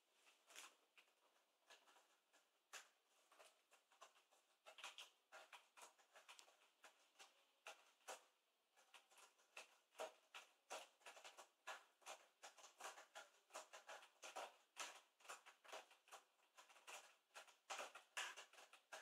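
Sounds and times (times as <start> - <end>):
cat claws scratching cardboard: 0.3 - 19.0.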